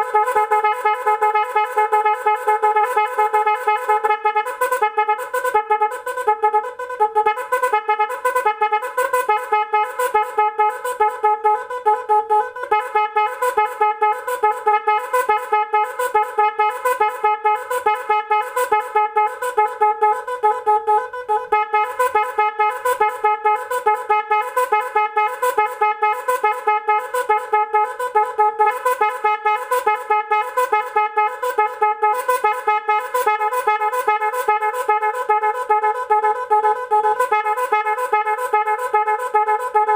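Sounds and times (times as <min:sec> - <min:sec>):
fast repeating horn blasts: 0:00.0 - 0:39.9.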